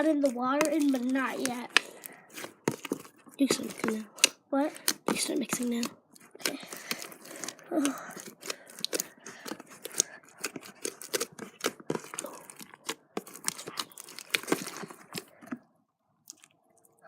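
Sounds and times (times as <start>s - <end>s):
slime squishing with sticky pops: 0.0s - 15.4s.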